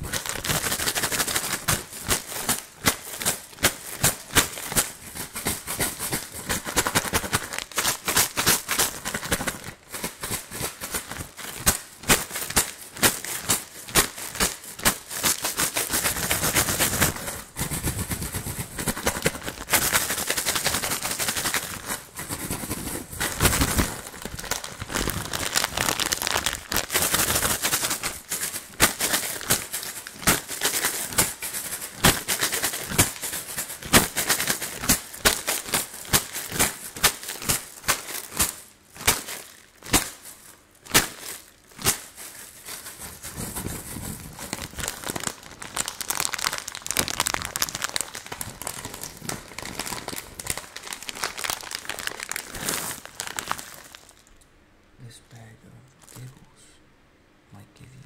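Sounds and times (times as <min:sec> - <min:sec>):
plastic bag crinkling: 0:00.0 - 0:54.4, 0:56.0 - 0:56.3.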